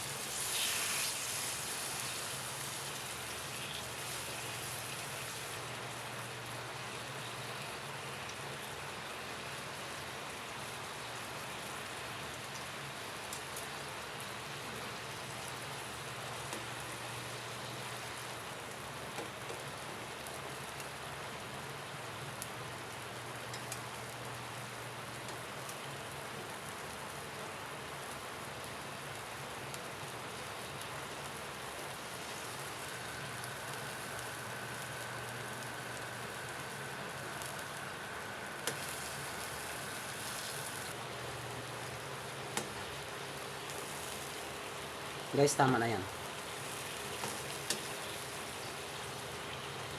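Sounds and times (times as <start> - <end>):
meat sizzling in oil: 0.0 - 49.9.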